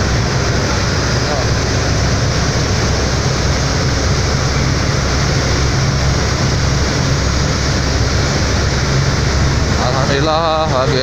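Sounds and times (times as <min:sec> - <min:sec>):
ferry engines droning: 0:00.0 - 0:11.0
rushing noise: 0:00.0 - 0:11.0.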